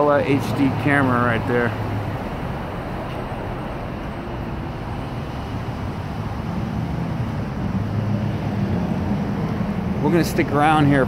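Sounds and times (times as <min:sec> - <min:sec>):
low rumble of passing cars: 0:00.0 - 0:11.0.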